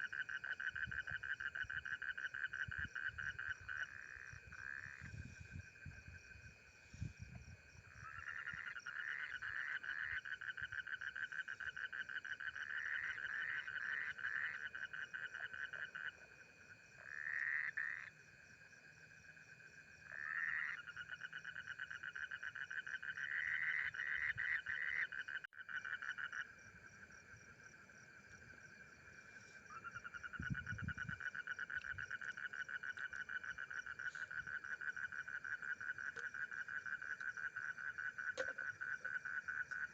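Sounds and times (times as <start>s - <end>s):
frogs trilling: 0.0s - 39.9s
high pulsing frog chorus: 0.0s - 39.9s.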